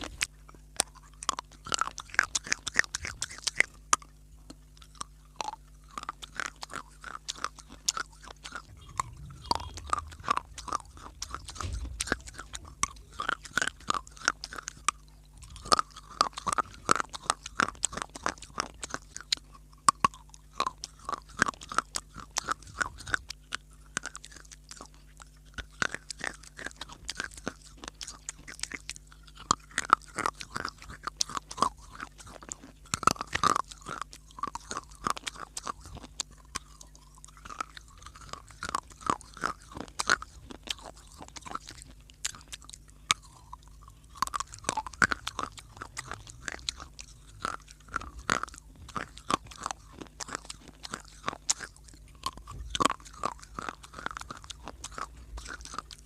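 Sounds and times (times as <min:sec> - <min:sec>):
chewing and crunching clay: 0:00.0 - 0:56.0.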